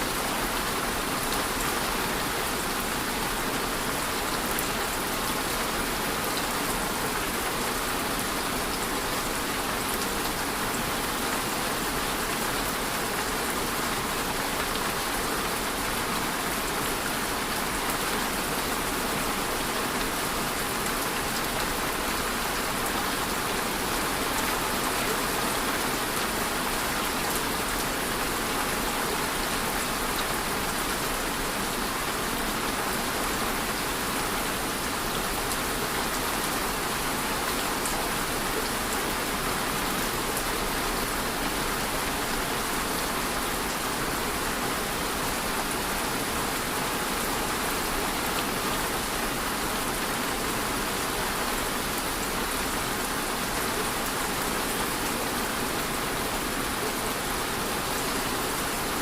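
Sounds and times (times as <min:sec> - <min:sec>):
steady rainfall hiss: 0:00.0 - 0:59.0.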